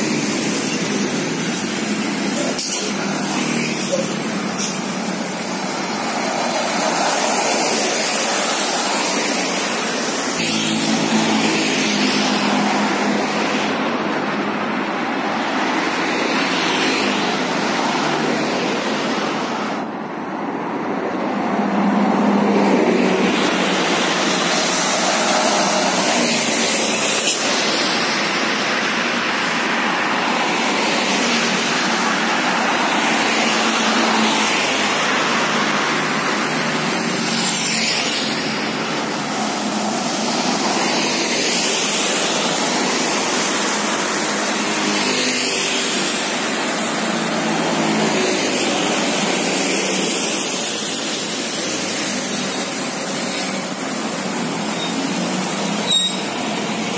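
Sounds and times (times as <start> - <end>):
tyres hissing on wet asphalt: 0.0 - 56.9
vehicle engines passing: 0.0 - 56.9.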